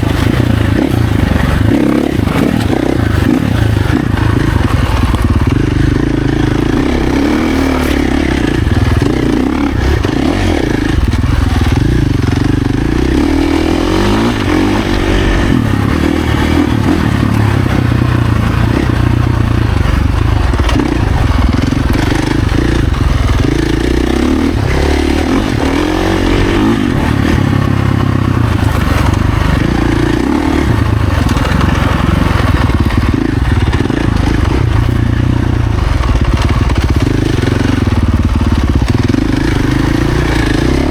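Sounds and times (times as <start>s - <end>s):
bike rattling and scraping: 0.0s - 40.9s
dirt bike engine revving: 0.0s - 40.9s.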